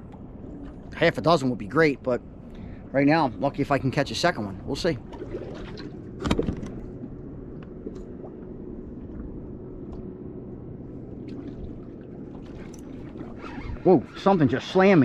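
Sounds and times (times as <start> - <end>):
boat motor hum: 0.0 - 15.0.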